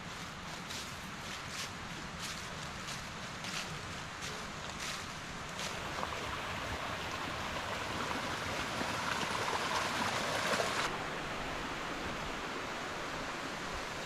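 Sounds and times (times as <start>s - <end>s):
mountain creek rushing: 0.0s - 14.0s.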